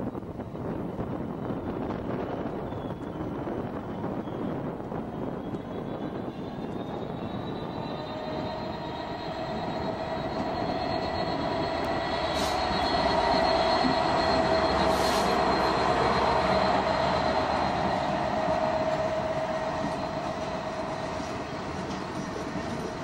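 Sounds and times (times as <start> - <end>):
diesel locomotive passing: 0.1 - 23.0
steady whine: 1.0 - 23.0.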